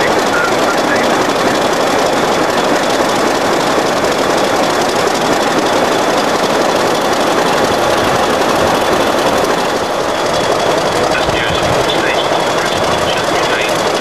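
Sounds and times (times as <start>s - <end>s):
diesel locomotive idling: 0.0s - 14.0s.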